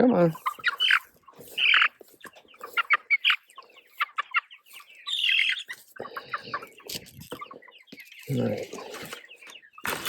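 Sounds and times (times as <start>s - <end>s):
chickens clucking and peeping: 0.0s - 10.0s.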